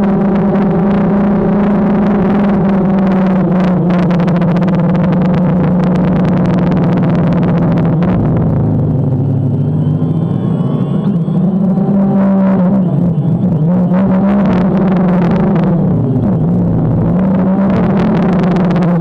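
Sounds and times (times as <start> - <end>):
drone motors humming: 0.0 - 19.0.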